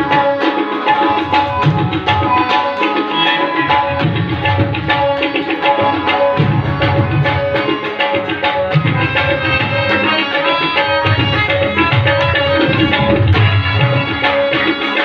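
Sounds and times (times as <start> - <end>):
hand drum rhythm: 0.0 - 15.0
harmonium sustained notes: 0.0 - 15.0.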